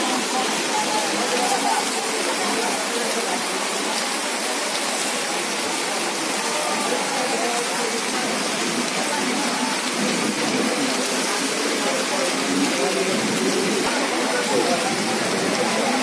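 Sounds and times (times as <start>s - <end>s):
faint voices talking: 0.0s - 16.0s
rain falling: 0.0s - 16.0s.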